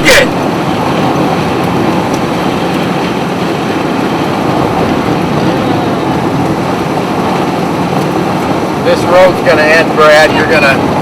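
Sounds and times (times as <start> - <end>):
road and engine noise: 0.0 - 11.0.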